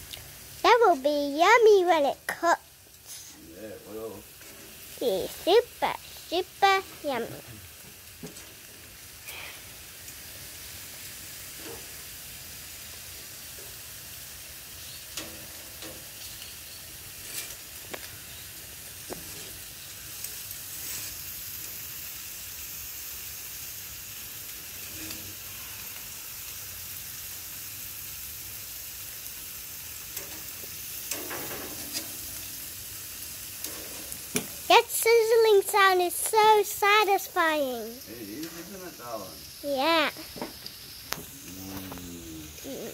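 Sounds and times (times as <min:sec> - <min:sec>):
bacon sizzling on a barbecue: 0:00.0 - 0:42.9.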